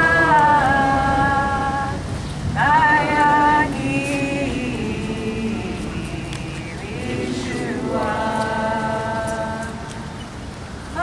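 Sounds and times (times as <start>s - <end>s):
woman singing through a loudspeaker: 0.0s - 2.0s, 2.6s - 10.2s.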